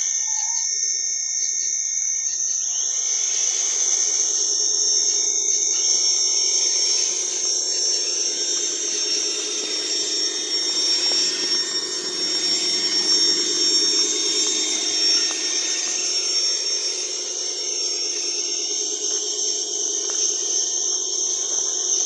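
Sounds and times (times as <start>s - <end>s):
electric motor and gears whining: 0.0s - 22.0s
high-pitched hiss: 0.0s - 22.0s.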